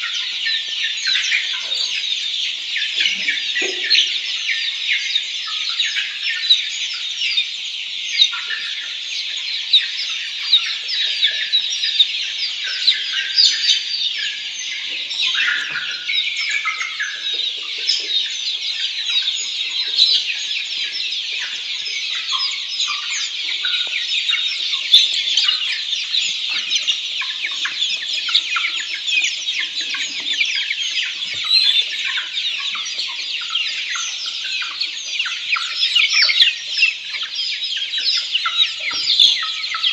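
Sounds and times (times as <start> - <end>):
chicken clucks: 0.0 - 39.9
chickens peeping and chirping: 0.0 - 39.9.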